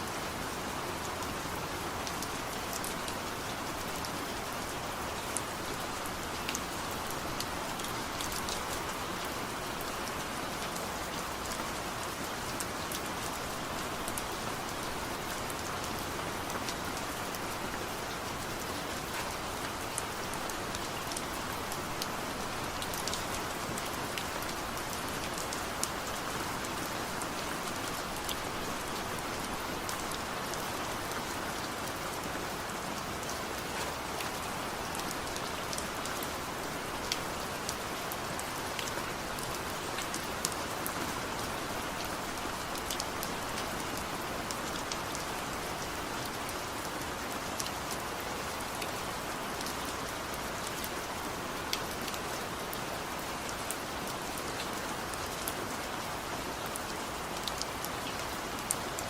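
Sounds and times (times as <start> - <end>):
raindrops ticking on a surface: 0.0 - 59.0
steady rain patter: 0.0 - 59.0.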